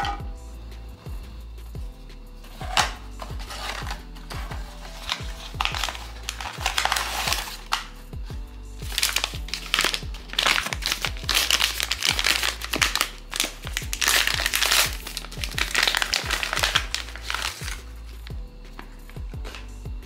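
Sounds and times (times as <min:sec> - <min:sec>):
background music with steady beat: 0:00.0 - 0:20.0
plastic packaging crinkling: 0:02.5 - 0:08.0, 0:08.9 - 0:19.7.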